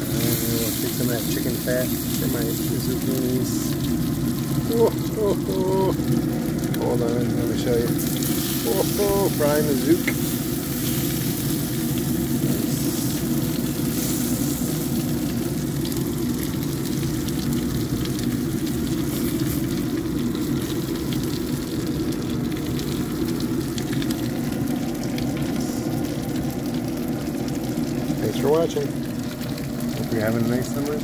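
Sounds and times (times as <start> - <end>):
zucchini sizzling in fat: 0.0 - 31.0.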